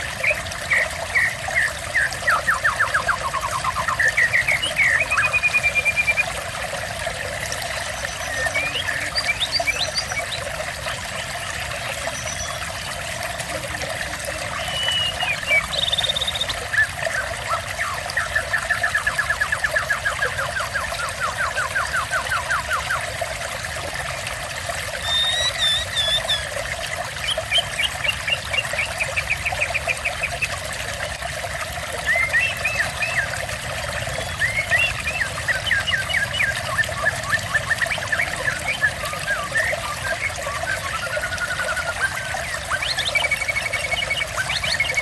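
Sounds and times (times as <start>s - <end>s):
birds singing: 0.0s - 23.4s, 24.9s - 31.2s, 31.9s - 45.0s
water trickling: 0.0s - 45.0s.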